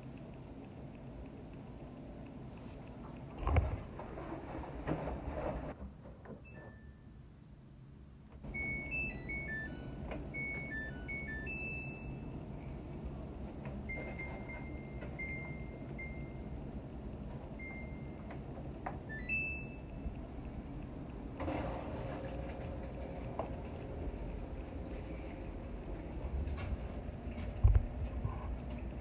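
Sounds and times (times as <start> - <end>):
washing machine hum: 0.0 - 29.0.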